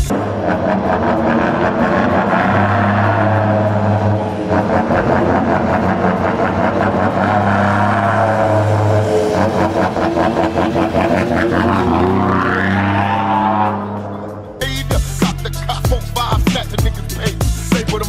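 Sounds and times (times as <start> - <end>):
diesel truck engine droning: 0.0 - 18.0.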